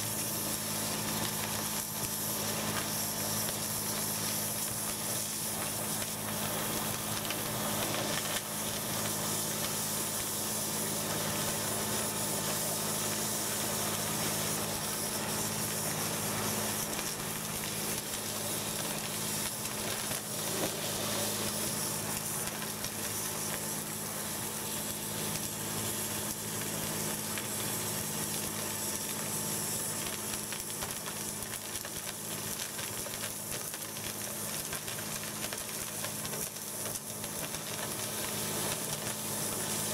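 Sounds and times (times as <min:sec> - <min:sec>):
water jet hissing: 0:00.0 - 0:32.3.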